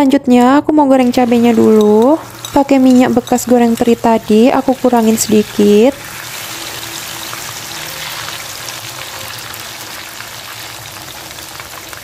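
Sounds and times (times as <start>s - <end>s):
sauce sizzling in hot oil: 1.0s - 12.0s.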